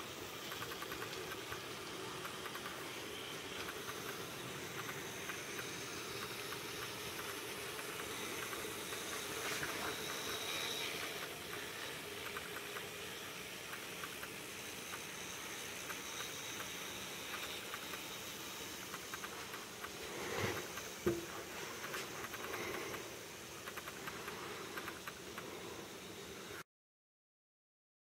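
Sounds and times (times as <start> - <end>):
model train whirring: 0.0 - 26.6
wheels clicking on rails: 0.0 - 26.6.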